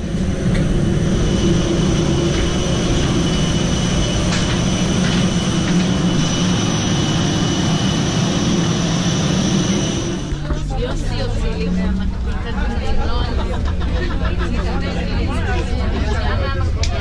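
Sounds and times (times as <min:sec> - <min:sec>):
cabin low rumble: 0:00.0 - 0:17.0
jet engine whine: 0:00.0 - 0:17.0.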